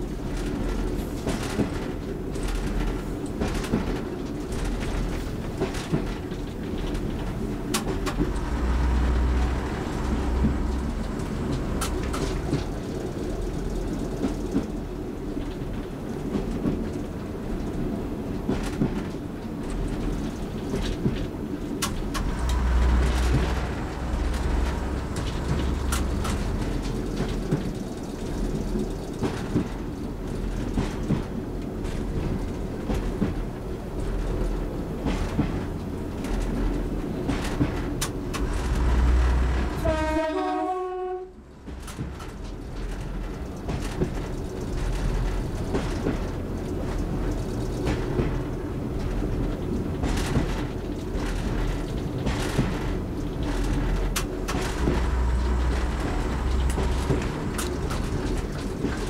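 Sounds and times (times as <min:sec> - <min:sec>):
diesel engine and wheel rumble: 0:00.0 - 0:59.0
train wheels clicking on track: 0:00.0 - 0:59.0.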